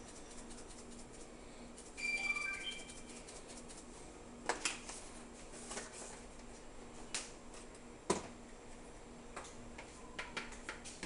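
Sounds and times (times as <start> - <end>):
faint steady hum: 0.0 - 10.8.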